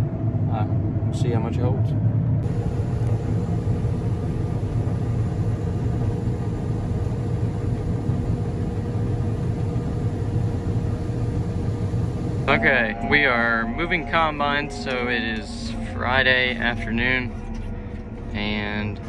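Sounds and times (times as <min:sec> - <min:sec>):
combine low mechanical drone: 0:00.0 - 0:19.0
steady hum: 0:00.0 - 0:19.0.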